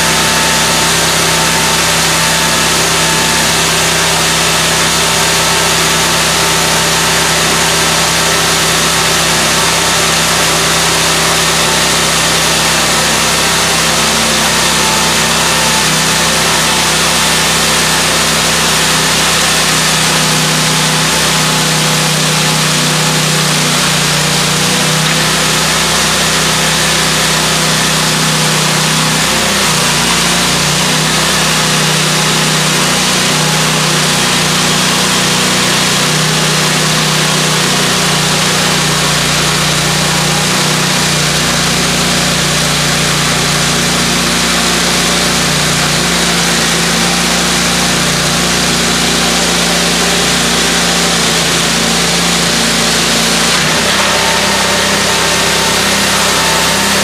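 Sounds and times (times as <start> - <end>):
chainsaw cutting lumber: 0.0 - 57.0.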